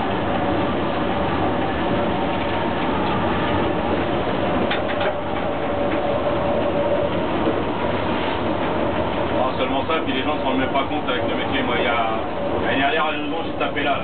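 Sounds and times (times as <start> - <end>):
faint train whine: 0.0 - 14.0
train running rumble: 0.0 - 14.0.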